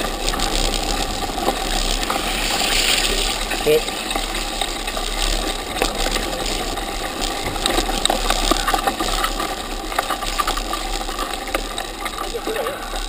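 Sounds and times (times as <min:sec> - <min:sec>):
bike rattling over bumps: 0:00.0 - 0:13.0
tyres on wet ground: 0:00.0 - 0:13.0.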